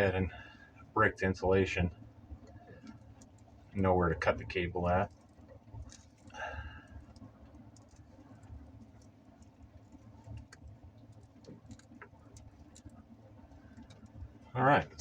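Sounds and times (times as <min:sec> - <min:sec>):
low steady hum: 0:00.0 - 0:15.0
small clicks and ticks: 0:00.2 - 0:15.0.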